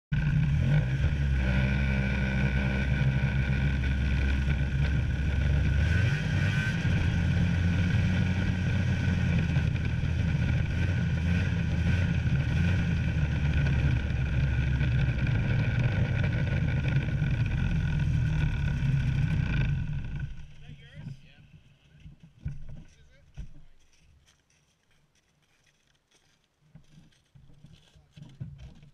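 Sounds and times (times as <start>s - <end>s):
snowmobile engine running: 0.1s - 23.8s.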